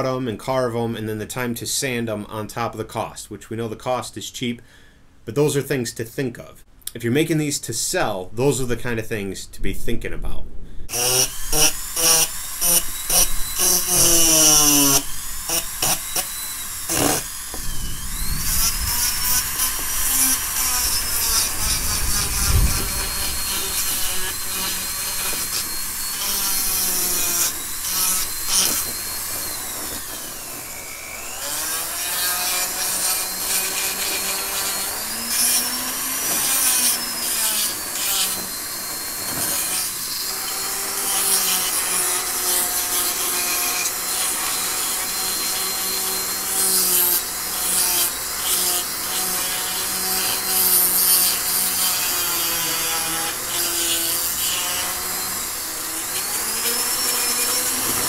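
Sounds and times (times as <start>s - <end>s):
rotary carver grinding wood: 10.9s - 58.0s.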